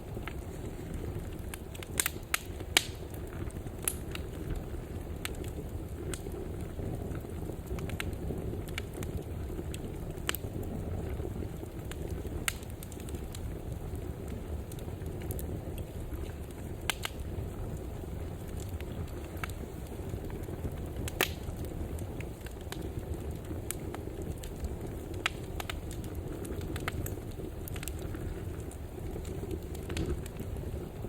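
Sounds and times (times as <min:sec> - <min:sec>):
fire crackles and pops: 0:00.0 - 0:31.0
wood fire rumbling: 0:00.0 - 0:31.0.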